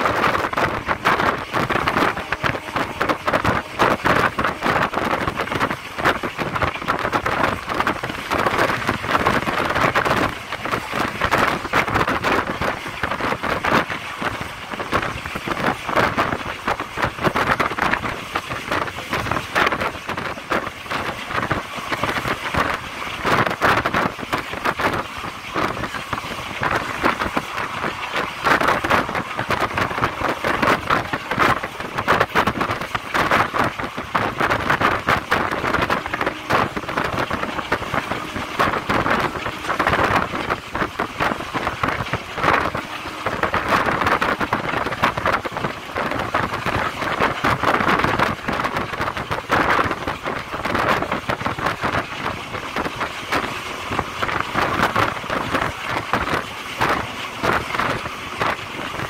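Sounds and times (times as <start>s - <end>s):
rushing wind: 0.0s - 59.0s
train wheels rumbling on track: 0.0s - 59.0s.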